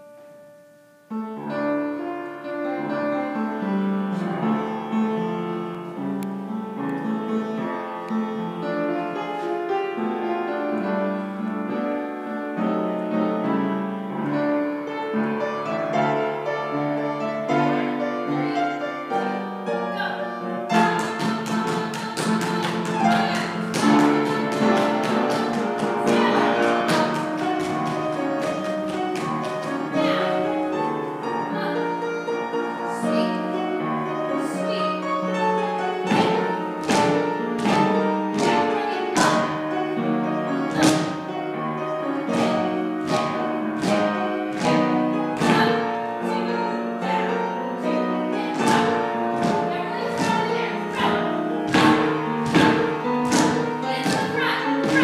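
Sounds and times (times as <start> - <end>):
piano show tune accompaniment: 0.0 - 55.0.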